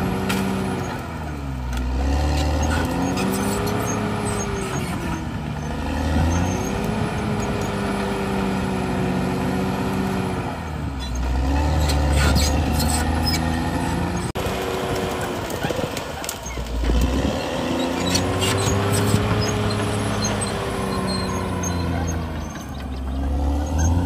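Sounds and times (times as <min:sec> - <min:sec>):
bulldozer diesel engine working: 0:00.0 - 0:24.0.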